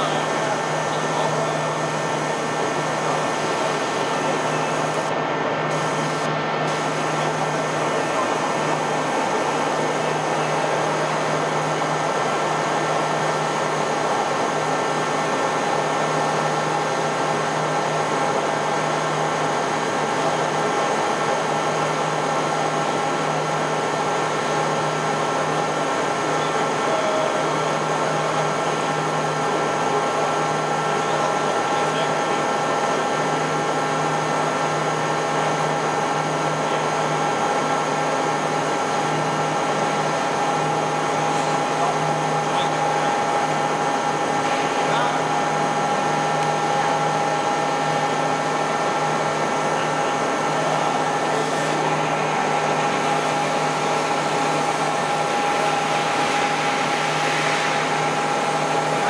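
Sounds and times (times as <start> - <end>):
milling machine humming: 0.0 - 59.0.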